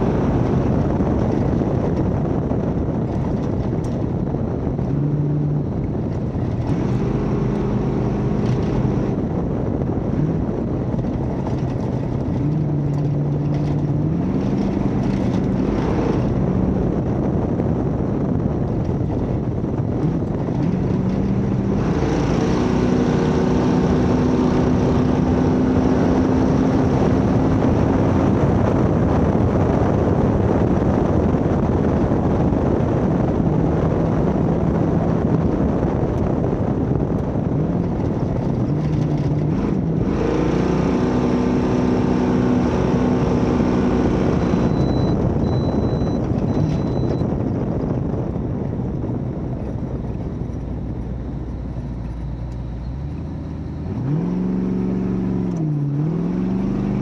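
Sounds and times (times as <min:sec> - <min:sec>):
truck engine under load: 0:00.0 - 0:30.2, 0:32.5 - 0:57.0
road noise: 0:00.0 - 0:57.0
wind noise: 0:00.0 - 0:57.0.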